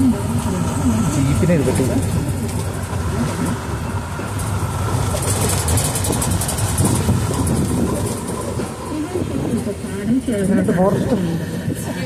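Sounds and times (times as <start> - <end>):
vehicle engine running: 0.0 - 11.1
road noise: 0.0 - 12.0.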